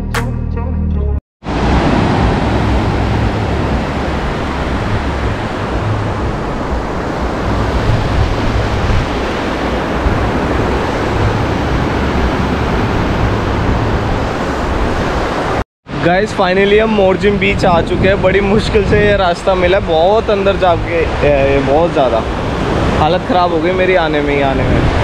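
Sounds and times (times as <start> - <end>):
surf breaking on a beach: 1.4 - 25.0
wind rumbling on microphone: 1.5 - 25.0.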